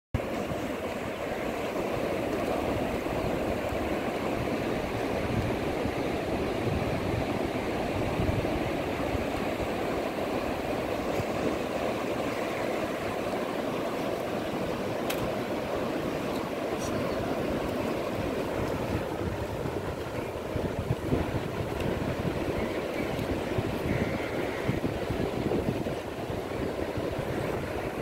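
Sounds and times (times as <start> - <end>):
sea surf washing in: 0.2 - 28.0.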